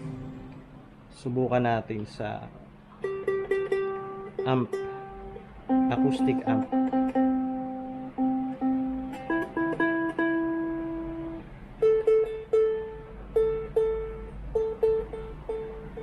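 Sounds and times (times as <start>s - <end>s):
ukulele strings plucked: 0.0s - 0.9s, 3.0s - 16.0s.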